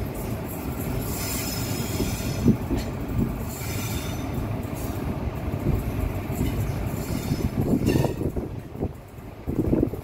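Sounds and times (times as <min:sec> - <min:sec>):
train wheels rumbling over rails: 0:00.0 - 0:10.0.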